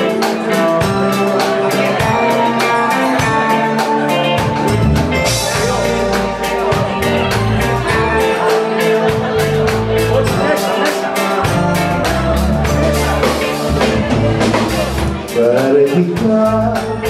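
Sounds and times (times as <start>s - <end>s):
bass line: 0.0s - 17.0s
drum kit: 0.0s - 17.0s
electric guitar: 0.0s - 17.0s.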